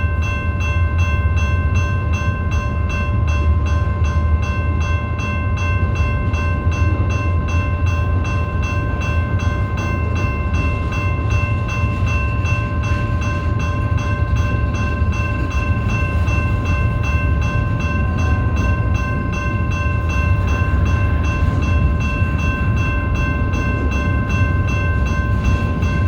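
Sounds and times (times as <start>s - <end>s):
freight train rumbling past: 0.0s - 26.0s
pulsing high ringing tones: 0.0s - 26.0s.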